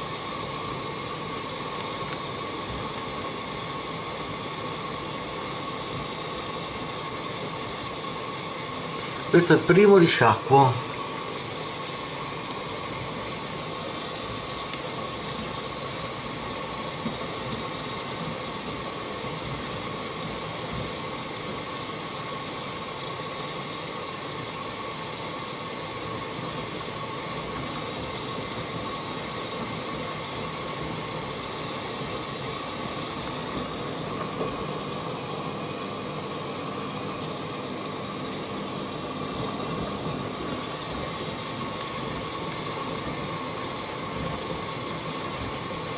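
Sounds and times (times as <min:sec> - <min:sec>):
washing machine motor tone: 0:00.0 - 0:45.9.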